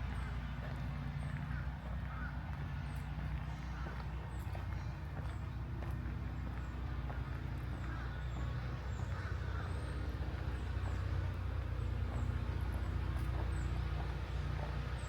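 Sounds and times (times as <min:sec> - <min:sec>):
footsteps on trail: 0:00.0 - 0:15.0
steady low hum: 0:00.0 - 0:15.0.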